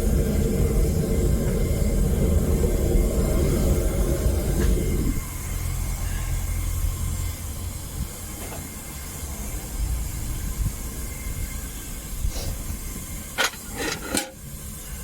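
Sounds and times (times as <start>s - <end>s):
gas burner rumble and hiss: 0.0s - 15.0s.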